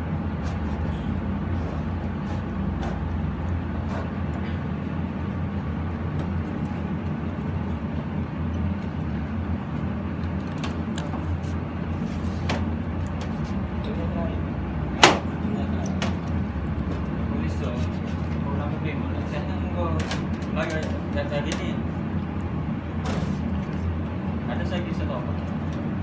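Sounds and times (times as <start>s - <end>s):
low machine drone: 0.0s - 26.0s.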